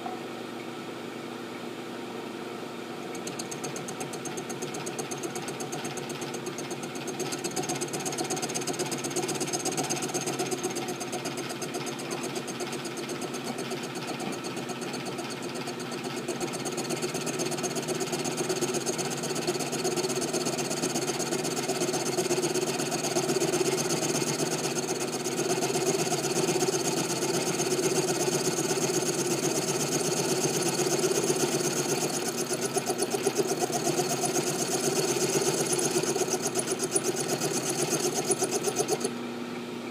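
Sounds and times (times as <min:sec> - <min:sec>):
machine tool rattling while cutting: 0:03.1 - 0:39.1.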